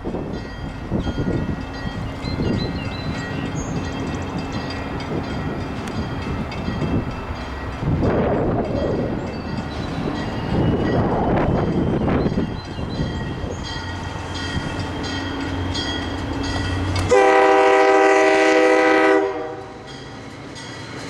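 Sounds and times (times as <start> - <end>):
wind buffeting microphone: 0.0 - 17.4
train rumbling on tracks: 0.0 - 21.0.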